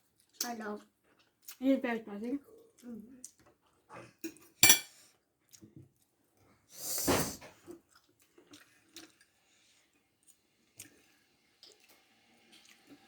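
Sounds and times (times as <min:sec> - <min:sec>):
soft chewing: 0:00.0 - 0:06.8, 0:07.4 - 0:13.0.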